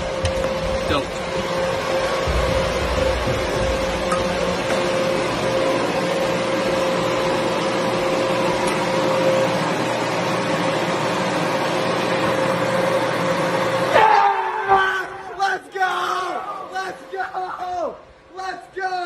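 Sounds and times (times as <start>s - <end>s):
air blower rushing and whining: 0.0s - 15.4s.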